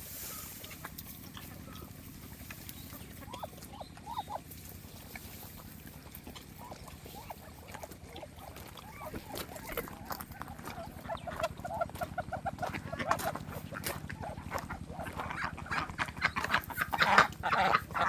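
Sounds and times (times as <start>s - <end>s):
chickens clucking: 0.0s - 18.0s
ducks calling: 0.0s - 18.0s
steady low hum: 0.0s - 18.0s.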